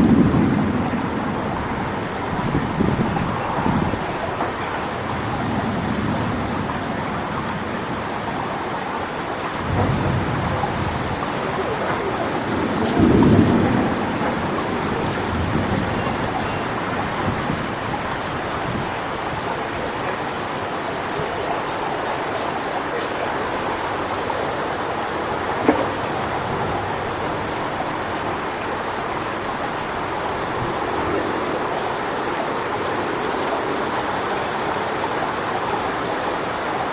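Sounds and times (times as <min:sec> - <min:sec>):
strong wind through palm trees: 0:00.0 - 0:36.9.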